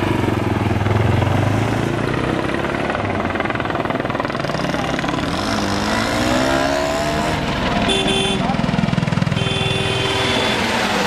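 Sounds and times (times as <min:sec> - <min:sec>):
helicopter engine: 0:00.0 - 0:05.8, 0:07.2 - 0:11.0
helicopter rotor chopping: 0:00.0 - 0:11.0.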